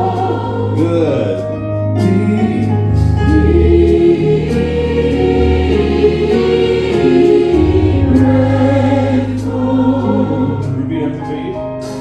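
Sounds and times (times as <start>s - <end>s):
low bass notes: 0.0s - 11.5s
gospel choir singing: 0.0s - 12.0s.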